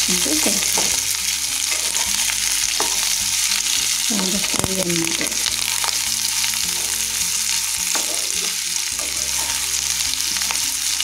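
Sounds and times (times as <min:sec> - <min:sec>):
food sizzling in oil: 0:00.0 - 0:11.0
spatula scraping and knocking pan: 0:00.4 - 0:11.0.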